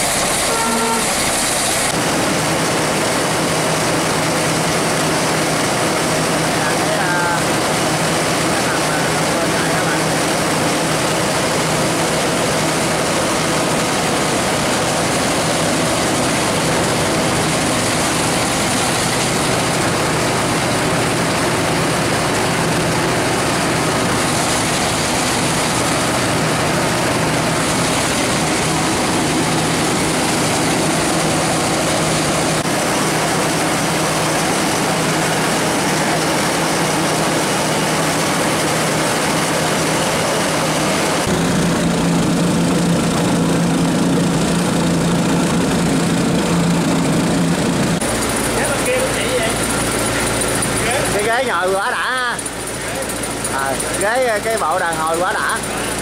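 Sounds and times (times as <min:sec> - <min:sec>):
combine harvester diesel engine running: 0:00.0 - 0:56.0.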